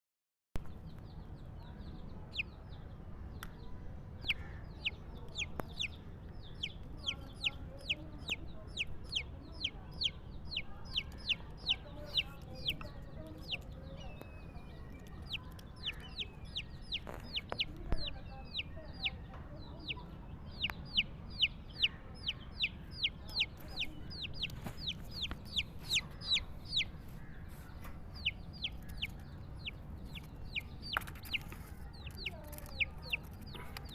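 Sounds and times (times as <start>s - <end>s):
small birds peeping: 0.6s - 33.9s.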